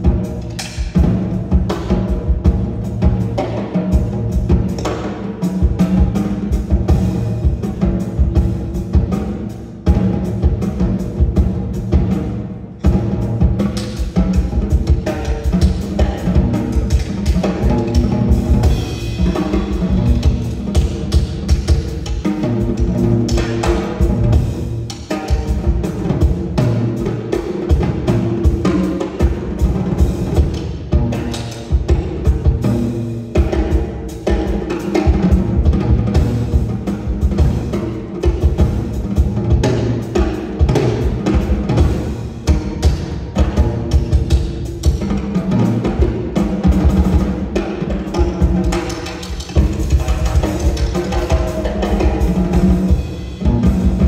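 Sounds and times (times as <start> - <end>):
drum kit played with sticks: 0.0 - 54.0.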